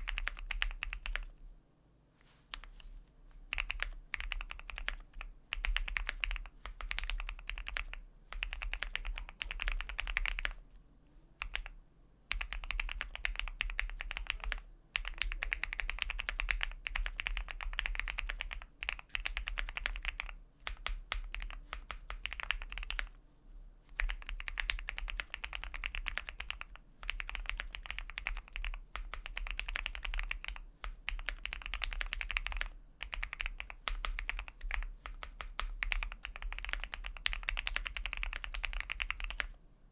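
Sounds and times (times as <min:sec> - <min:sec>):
mechanical keyboard typing: 0:00.0 - 0:01.3, 0:03.5 - 0:10.6, 0:11.4 - 0:23.1, 0:23.9 - 0:39.5.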